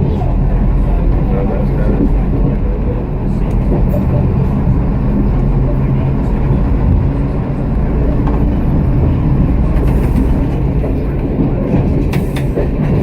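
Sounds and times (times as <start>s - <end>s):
railcar engine drone: 0.0s - 13.0s.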